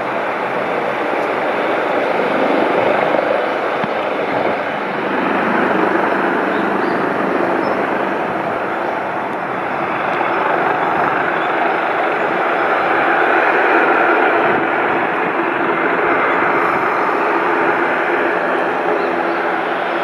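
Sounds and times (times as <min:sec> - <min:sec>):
aircraft engine rushing: 0:00.0 - 0:20.0.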